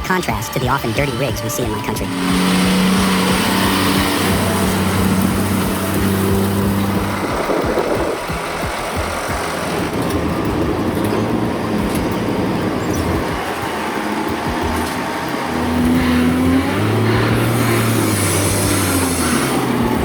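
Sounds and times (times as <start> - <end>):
heavy truck engine running: 0.0 - 20.0
road and wind noise: 0.0 - 20.0.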